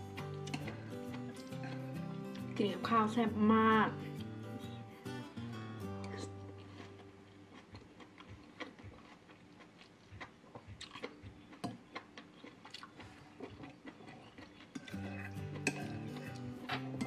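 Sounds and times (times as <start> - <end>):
person chewing food: 0.0 - 2.6, 5.9 - 17.0.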